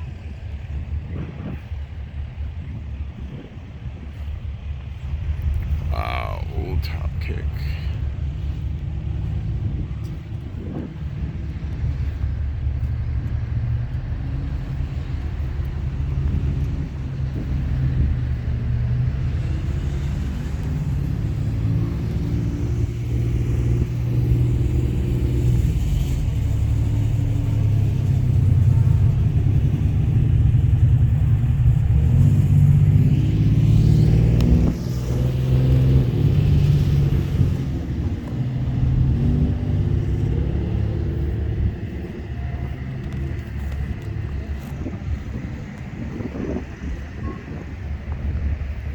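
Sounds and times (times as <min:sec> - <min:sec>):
truck engine rumbling: 0:03.5 - 0:48.9.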